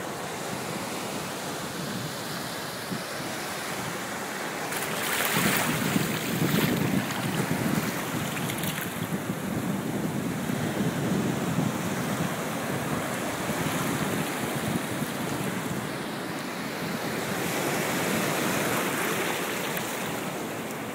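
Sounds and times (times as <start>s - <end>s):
surf washing over sand: 0.0s - 20.9s.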